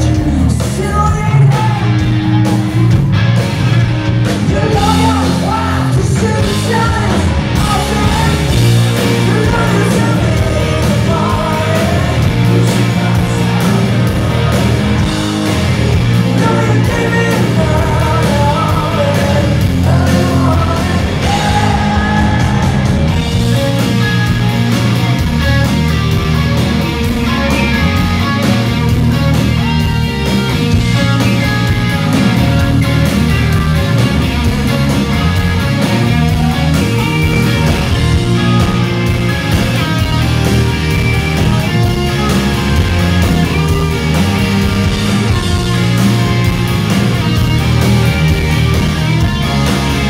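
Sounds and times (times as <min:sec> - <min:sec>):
rock band playing live: 0:00.0 - 0:50.0.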